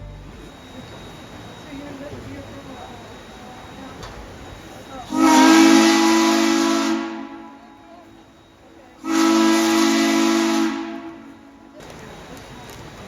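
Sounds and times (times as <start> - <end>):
steam locomotive chime whistle: 0.0 - 13.0.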